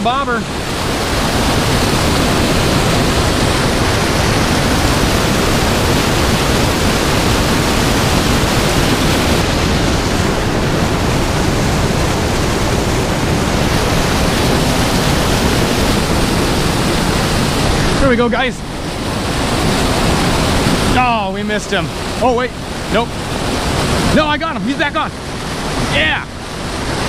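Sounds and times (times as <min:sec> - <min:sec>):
churning whitewater rushing: 0:00.0 - 0:27.0.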